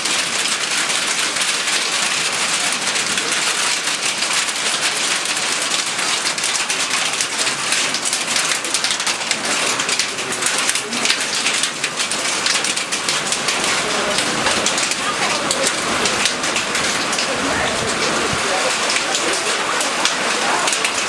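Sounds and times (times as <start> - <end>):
hail pelting down: 0.0 - 21.0.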